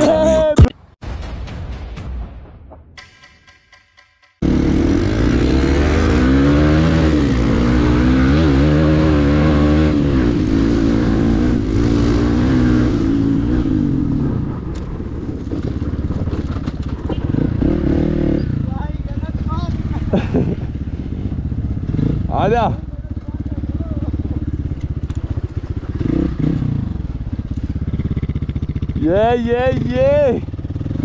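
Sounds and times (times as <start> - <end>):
wind: 0.0 - 31.0
dirt bike engine revving: 4.4 - 31.0.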